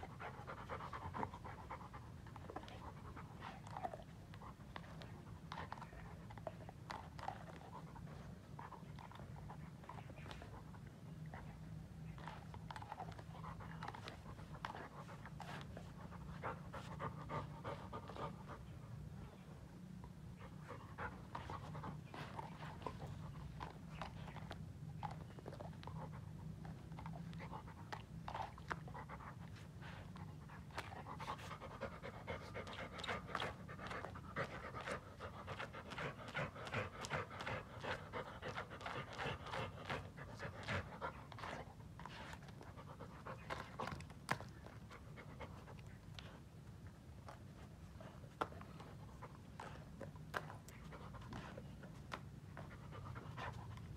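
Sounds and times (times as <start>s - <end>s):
dog panting rapidly: 0.0s - 19.2s, 20.3s - 53.9s.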